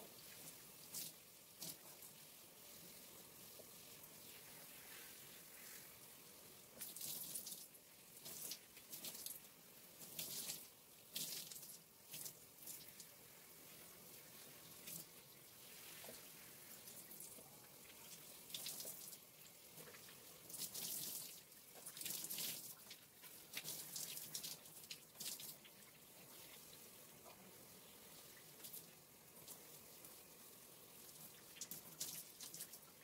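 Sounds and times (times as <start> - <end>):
faint running tap water: 0.0 - 33.0.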